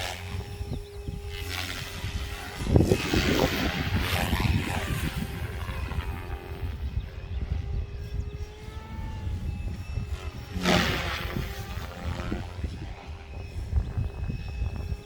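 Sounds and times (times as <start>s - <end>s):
small helicopter motor whine: 0.0s - 15.0s
wind buffeting microphone: 0.0s - 15.0s.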